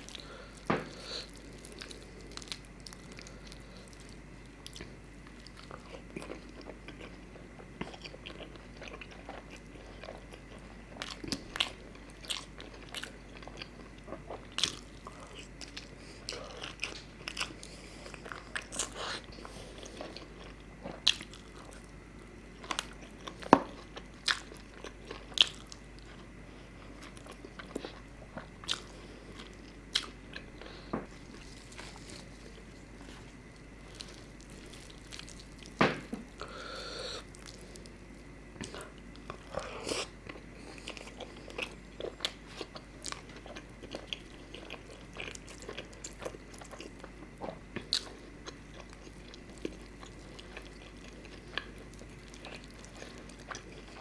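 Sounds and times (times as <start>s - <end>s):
man chewing with wet mouth sounds: 0.0s - 54.0s.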